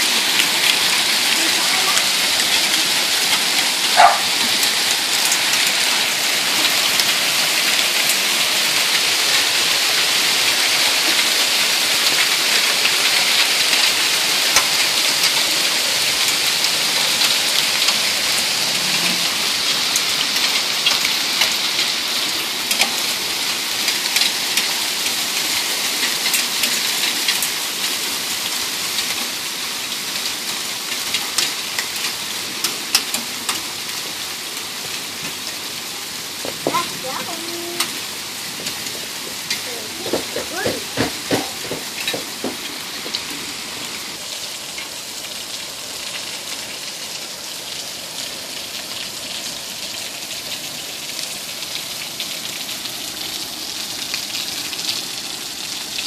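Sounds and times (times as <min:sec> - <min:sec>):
hail impacts ticking: 0:00.0 - 0:56.0
heavy rain hiss: 0:00.0 - 0:56.0.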